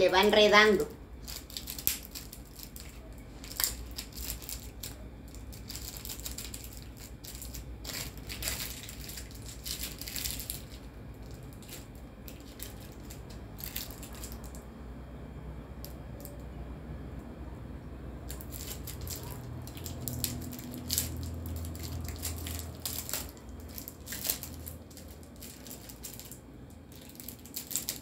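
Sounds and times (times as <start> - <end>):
cellophane wrapper crinkling: 1.2 - 14.7, 18.2 - 28.0.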